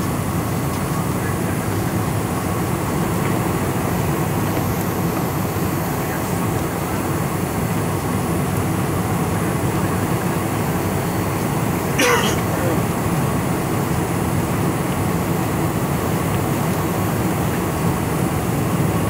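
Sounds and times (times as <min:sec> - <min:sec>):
aircraft engine roar: 0:00.0 - 0:19.0
wheels rumbling on runway: 0:00.0 - 0:19.0.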